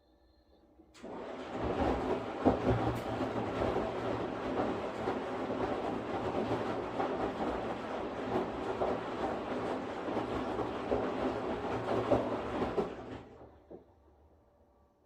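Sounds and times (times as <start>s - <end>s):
washing machine clattering knocks: 1.0s - 13.8s
washing machine rumbling: 1.0s - 13.9s.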